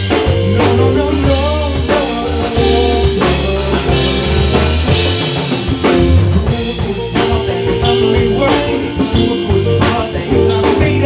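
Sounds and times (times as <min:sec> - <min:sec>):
band music: 0:00.0 - 0:11.0
bass drum and snare hits: 0:00.0 - 0:11.0
sustained bass notes: 0:00.0 - 0:11.0.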